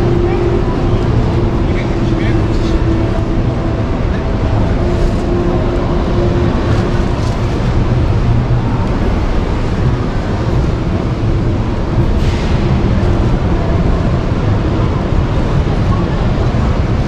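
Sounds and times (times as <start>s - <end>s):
exhibition hall rumbling ambience: 0.0s - 17.0s.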